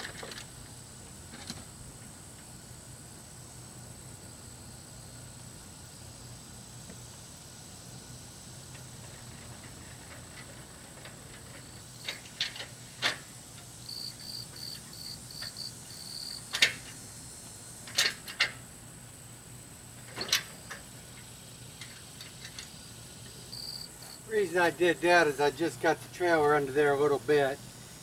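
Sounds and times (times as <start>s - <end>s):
insect chirping: 0.0s - 25.9s
insects high drone: 0.0s - 28.0s.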